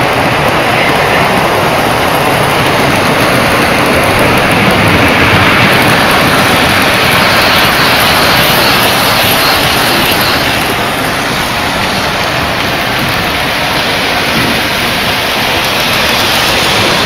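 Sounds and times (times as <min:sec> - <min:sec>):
model trains rumbling on track: 0:00.0 - 0:17.0.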